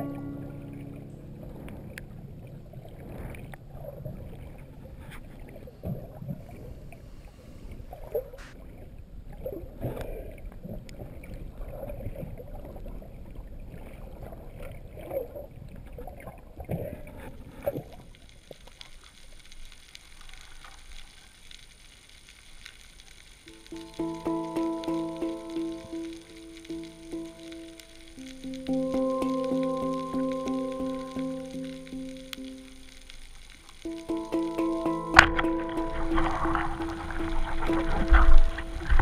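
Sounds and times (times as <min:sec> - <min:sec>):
water sloshing and splashing: 0:00.0 - 0:21.9, 0:23.5 - 0:39.0.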